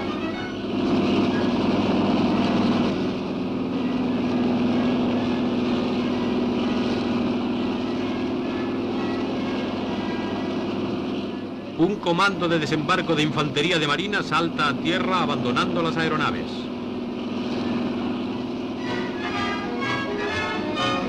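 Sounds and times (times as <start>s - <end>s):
helicopter engines and rotors: 0.0s - 21.0s.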